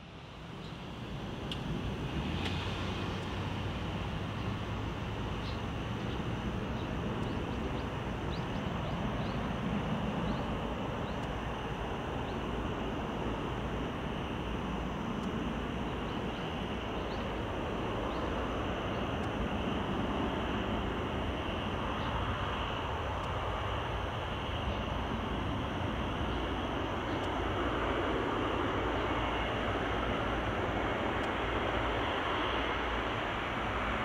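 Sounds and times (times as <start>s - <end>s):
jet engine rush and rumble: 0.0s - 34.0s.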